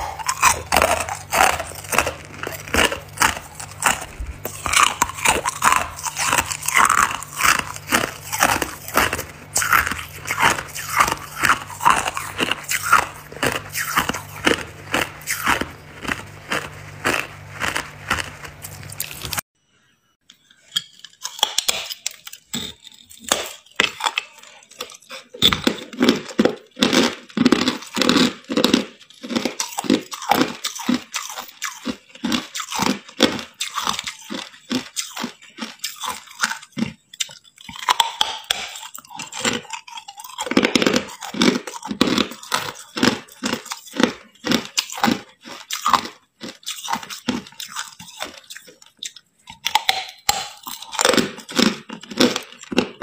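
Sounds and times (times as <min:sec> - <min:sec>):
person crunching ice: 0:00.0 - 0:19.5, 0:21.2 - 0:53.0.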